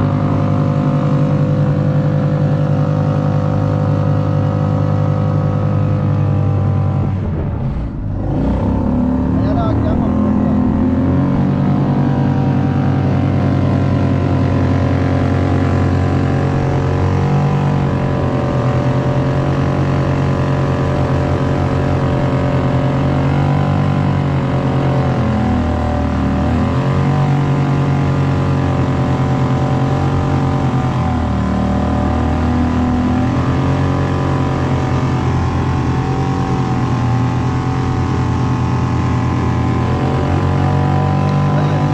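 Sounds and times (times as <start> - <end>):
outboard motor running: 0.0 - 41.9.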